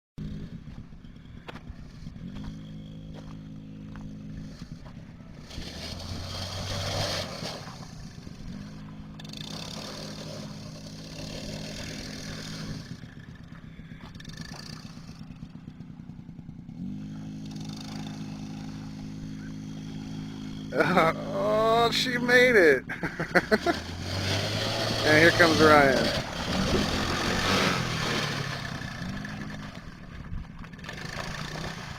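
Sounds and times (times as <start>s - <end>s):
small atv engine revving: 0.2s - 31.9s.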